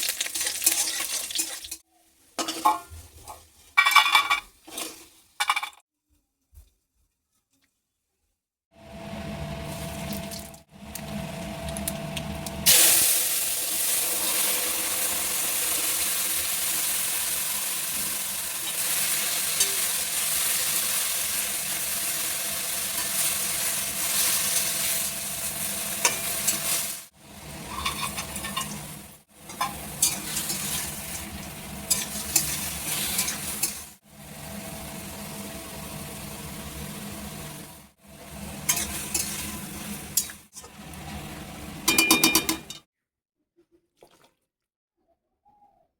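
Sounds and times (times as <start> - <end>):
food sizzling in hot oil: 0.0 - 5.2, 9.1 - 42.6.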